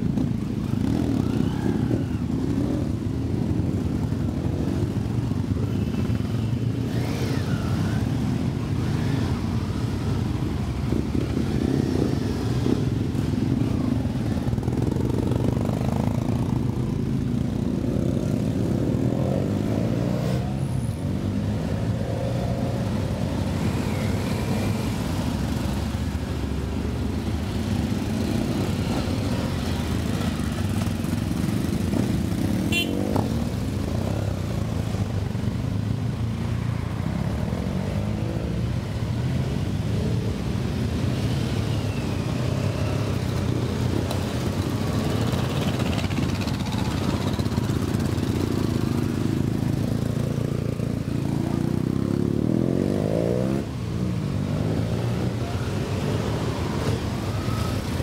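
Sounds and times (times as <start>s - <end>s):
motorcycles riding past: 0.0s - 58.0s.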